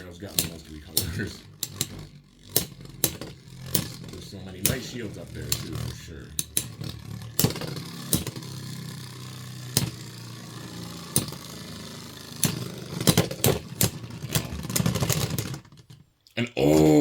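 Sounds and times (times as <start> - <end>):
spinning tops clacking together: 0.0 - 16.0
spinning tops whirring: 0.0 - 16.1.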